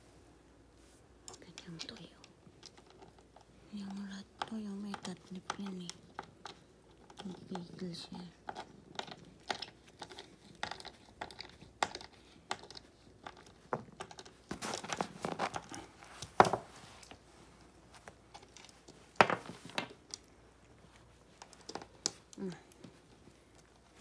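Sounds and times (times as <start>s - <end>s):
crinkling: 0.6s - 24.0s.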